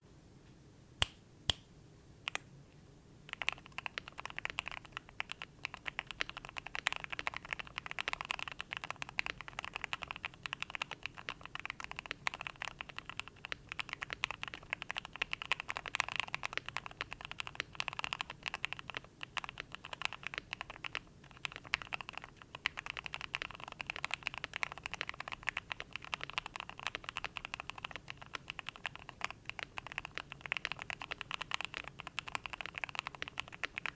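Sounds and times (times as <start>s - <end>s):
typing on mechanical keyboard: 3.3s - 33.9s.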